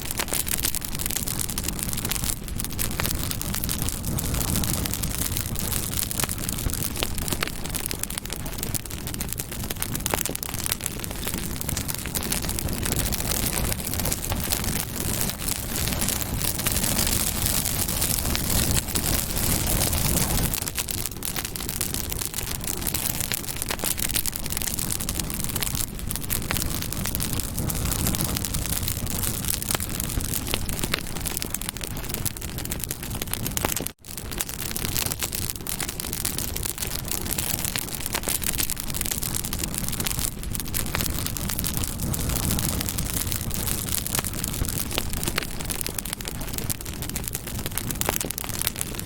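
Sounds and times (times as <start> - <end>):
rush of flames: 0.0 - 49.0
wood crackling and popping: 0.0 - 49.0.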